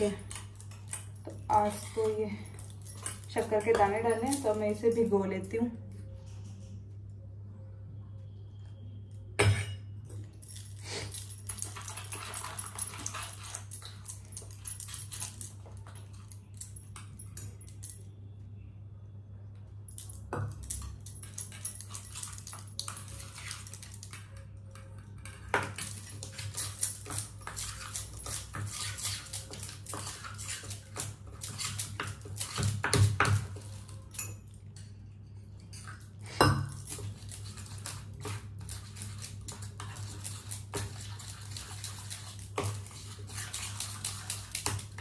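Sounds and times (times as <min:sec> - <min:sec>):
utensils clinking and scraping bowl: 0:00.0 - 0:06.8, 0:09.4 - 0:18.0, 0:20.0 - 0:45.0.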